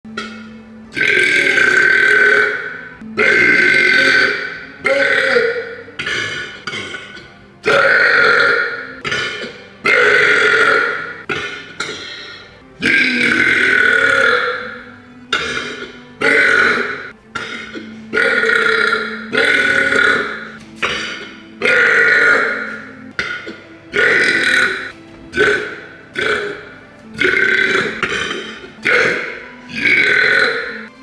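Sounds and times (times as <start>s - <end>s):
person belching loudly: 0.1s - 31.0s.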